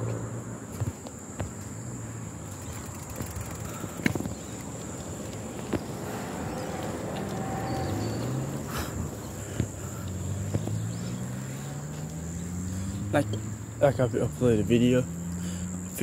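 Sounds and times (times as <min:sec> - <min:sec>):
bicycle rolling over pavement: 0:00.0 - 0:13.1.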